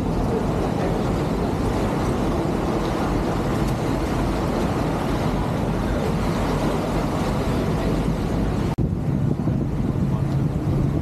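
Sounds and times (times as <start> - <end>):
boat engine rumble: 0.0 - 11.0
water churning around hull: 0.0 - 11.0.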